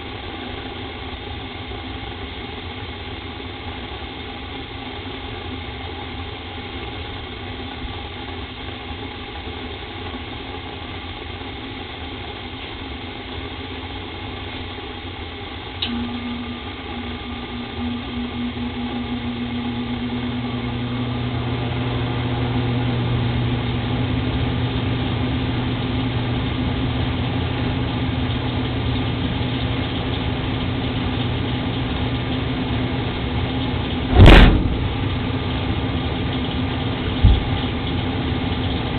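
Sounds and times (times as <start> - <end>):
electrical hum: 0.0 - 38.9
gas furnace running: 0.0 - 38.9.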